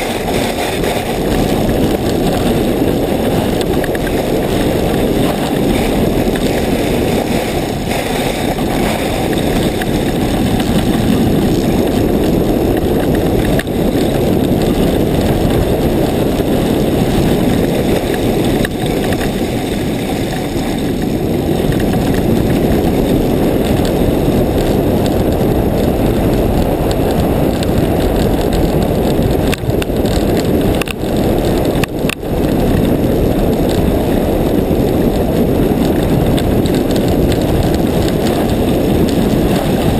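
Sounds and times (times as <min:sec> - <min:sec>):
skis running over snow: 0:00.0 - 0:39.9
wind buffeting microphone: 0:00.0 - 0:39.9.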